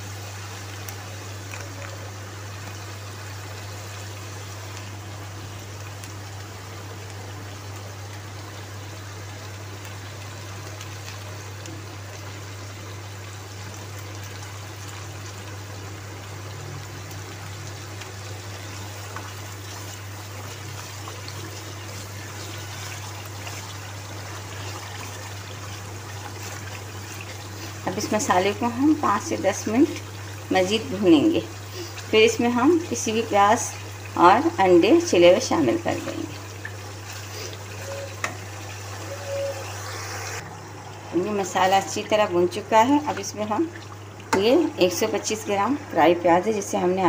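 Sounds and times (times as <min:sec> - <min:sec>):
spices sizzling in hot oil: 0:00.0 - 0:47.0.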